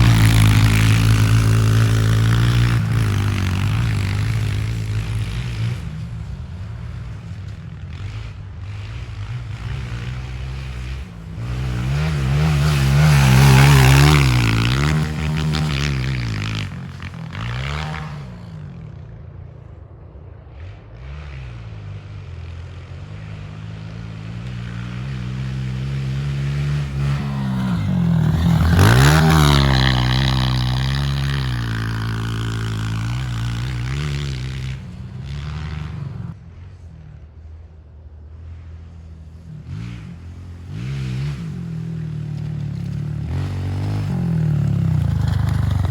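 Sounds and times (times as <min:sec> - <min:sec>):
motorbike engine revving: 0:00.0 - 0:18.8, 0:21.0 - 0:36.4, 0:39.6 - 0:45.9.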